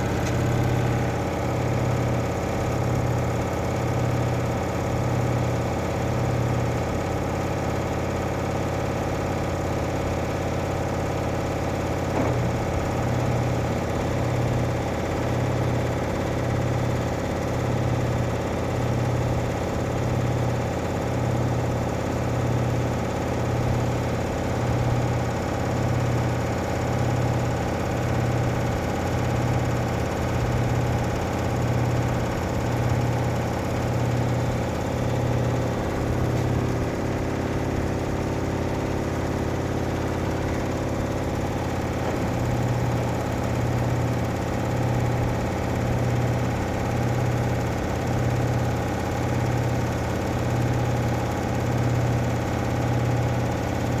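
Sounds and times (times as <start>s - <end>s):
washing machine humming and throbbing: 0.0s - 54.0s.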